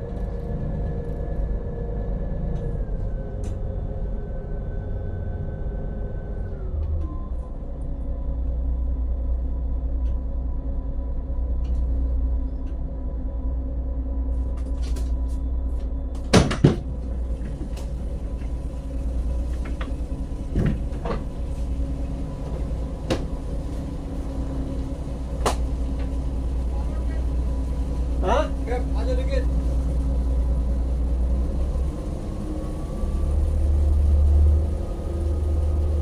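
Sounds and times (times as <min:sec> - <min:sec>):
boat engine rumbling: 0:00.0 - 0:36.0.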